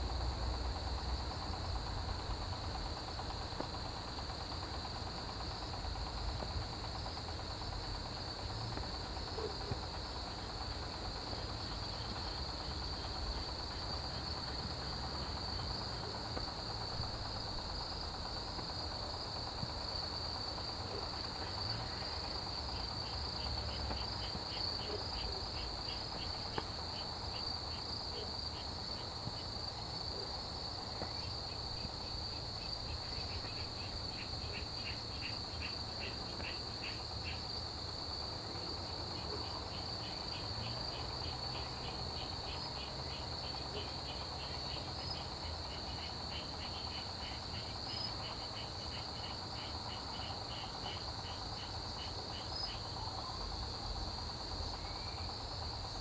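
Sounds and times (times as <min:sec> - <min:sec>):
insects pulsed chirping: 0:00.0 - 0:56.0.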